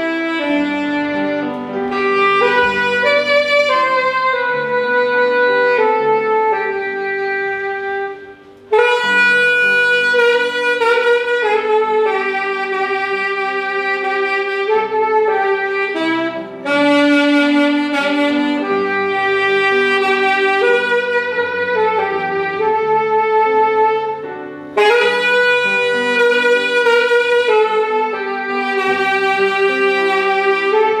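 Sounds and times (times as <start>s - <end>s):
saxophone slow melody: 0.0s - 31.0s.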